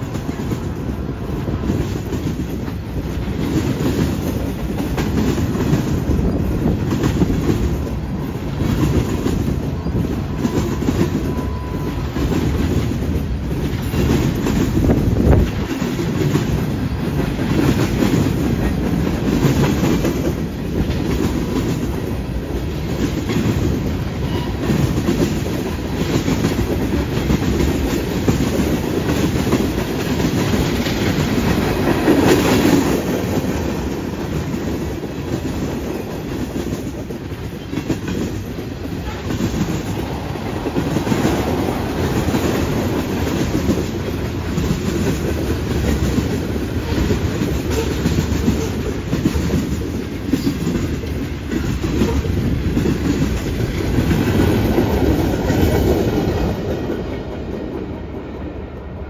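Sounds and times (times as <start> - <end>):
wheels clicking over rail joints: 0.0 - 58.4
train wheels rumbling on rail: 0.0 - 59.0.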